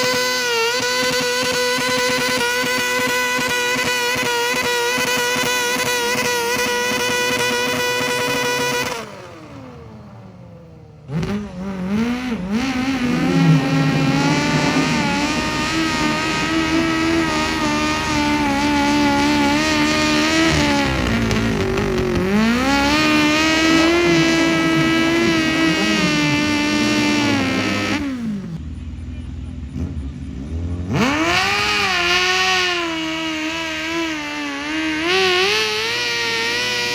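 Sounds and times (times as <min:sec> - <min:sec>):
tractor engine at high revs: 0:00.0 - 0:36.9.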